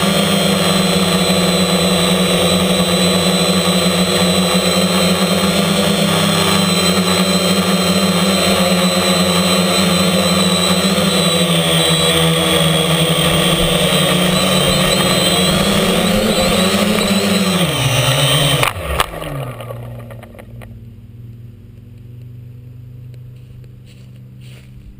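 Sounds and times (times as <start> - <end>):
drone touching down knock: 0.0 - 20.8
drone propellers buzzing: 0.0 - 24.9.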